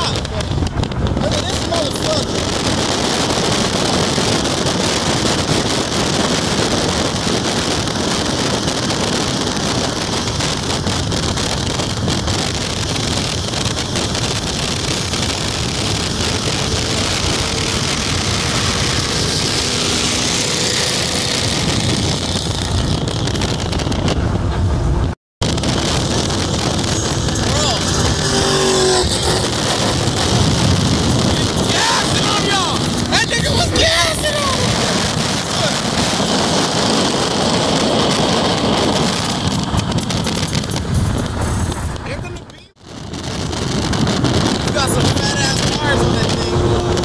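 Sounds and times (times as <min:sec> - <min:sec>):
cars passing at high speed: 0:00.0 - 0:42.2, 0:42.9 - 0:47.0
wind buffeting microphone: 0:00.0 - 0:47.0.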